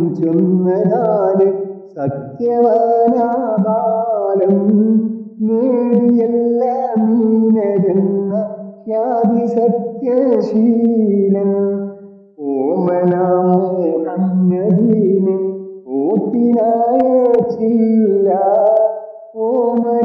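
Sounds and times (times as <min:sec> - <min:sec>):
person singing slow melody: 0:00.0 - 0:20.0.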